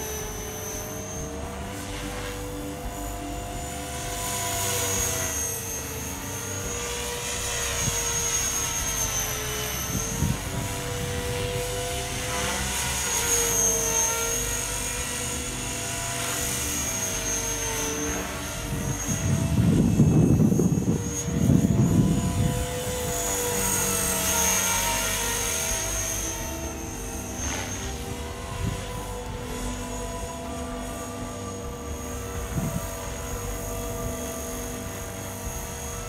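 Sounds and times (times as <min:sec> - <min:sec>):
model helicopter motor whine: 0:00.0 - 0:36.0.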